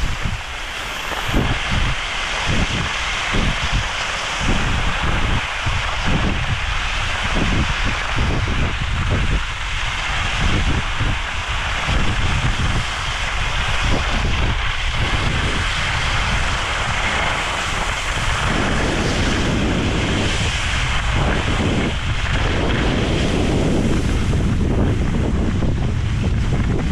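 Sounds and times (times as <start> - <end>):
skis hissing on snow: 0.0 - 26.9
wind rushing over microphone: 0.0 - 26.9.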